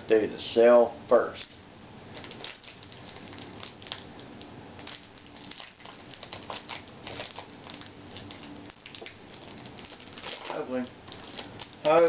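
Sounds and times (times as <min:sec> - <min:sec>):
foil wrapper crinkling: 0:02.1 - 0:12.0.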